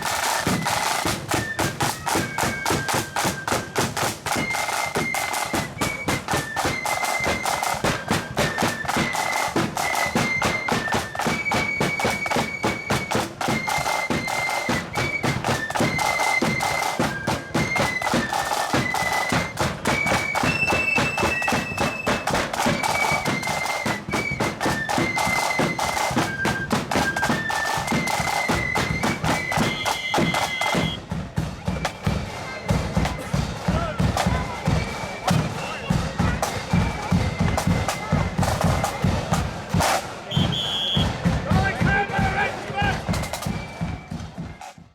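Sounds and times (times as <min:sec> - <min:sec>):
marching drums: 0:00.0 - 0:44.9.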